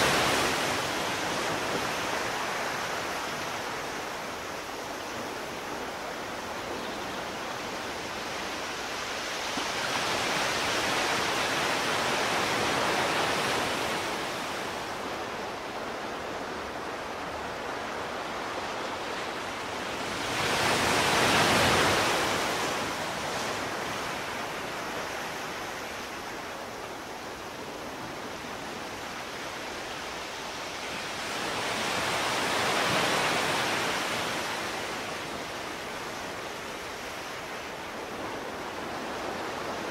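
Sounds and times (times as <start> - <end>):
rushing sea water: 0.0 - 39.9.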